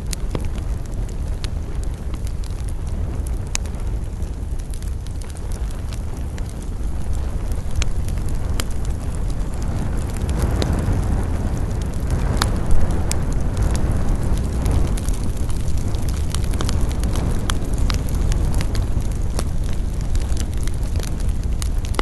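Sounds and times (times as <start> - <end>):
campfire crackling and popping: 0.0 - 22.0
wind rushing through pine trees: 0.0 - 22.0.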